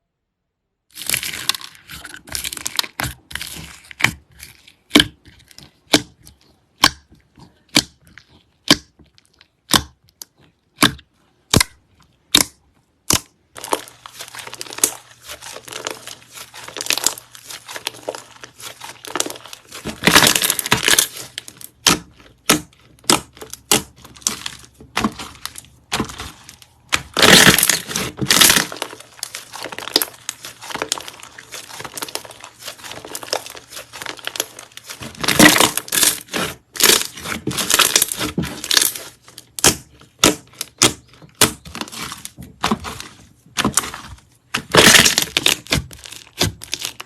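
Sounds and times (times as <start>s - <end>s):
slime crackling: 0.9s - 47.0s.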